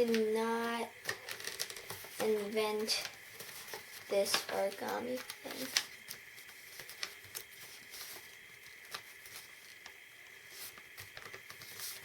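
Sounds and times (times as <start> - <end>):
faint background hiss: 0.0 - 12.0
paper rustling and creasing: 0.0 - 12.0.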